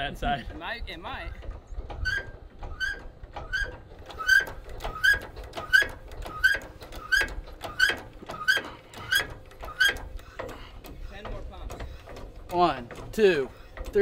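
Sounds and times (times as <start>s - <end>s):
hydraulic pump squeaking: 1.4s - 14.0s.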